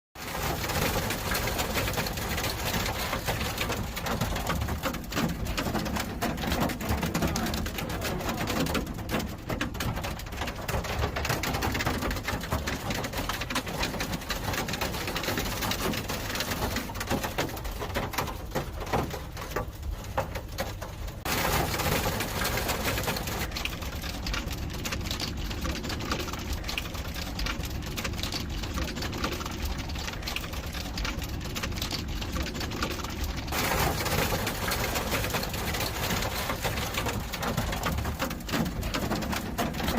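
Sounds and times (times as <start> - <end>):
heavy rain: 0.2 - 39.9.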